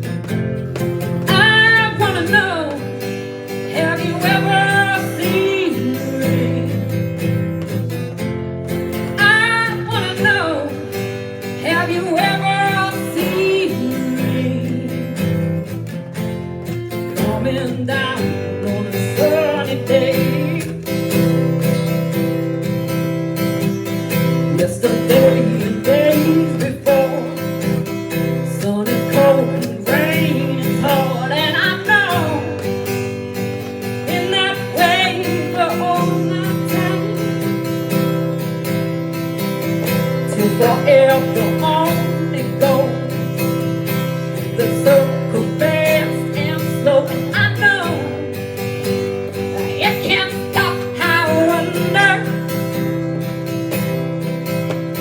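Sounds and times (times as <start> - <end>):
acoustic guitar strumming chords: 0.0 - 55.0.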